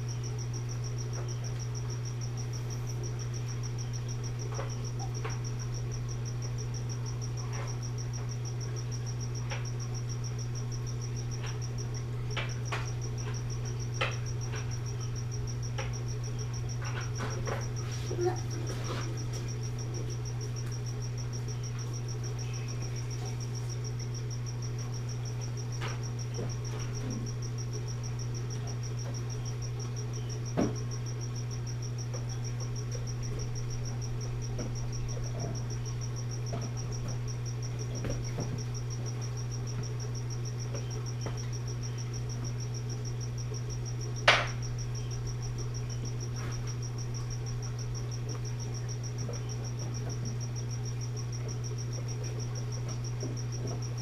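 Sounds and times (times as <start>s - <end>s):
aquarium pump hum and whine: 0.0s - 54.0s.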